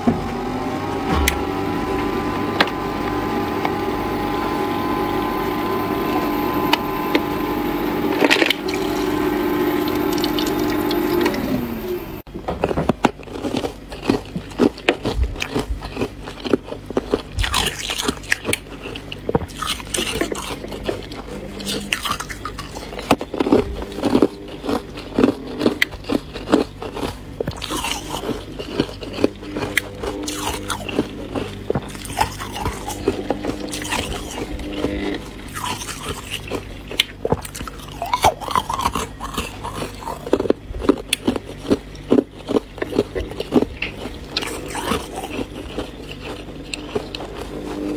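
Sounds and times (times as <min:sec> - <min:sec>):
ice crunching while chewed: 0:01.3 - 0:47.9.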